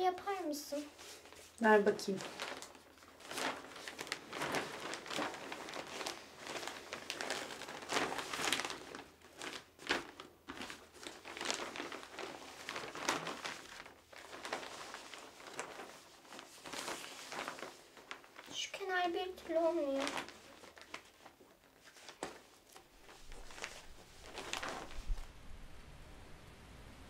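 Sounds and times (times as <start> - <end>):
paper crinkling and rustling: 0.0 - 25.3.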